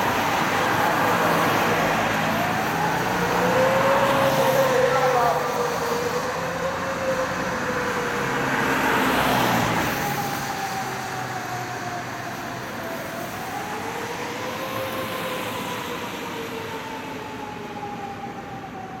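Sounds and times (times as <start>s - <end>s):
fire engine siren wailing: 0.0s - 19.0s
truck road noise: 0.0s - 19.0s.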